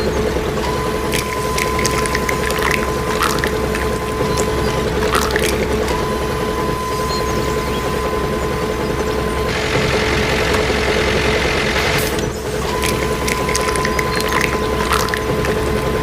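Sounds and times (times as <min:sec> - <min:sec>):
constant whine: 0:00.0 - 0:16.0
engine running: 0:00.0 - 0:16.0.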